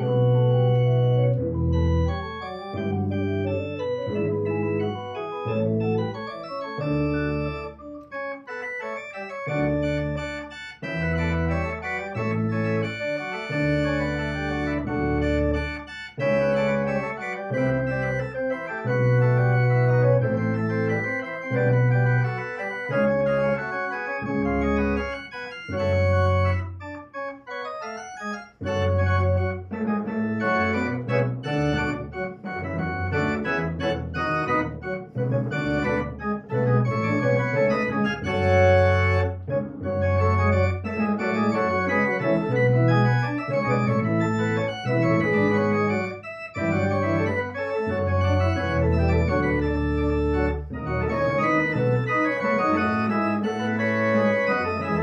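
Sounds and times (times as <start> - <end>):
deep organ pedal bass notes: 0.0 - 55.0
electronic organ playing chords: 0.0 - 55.0.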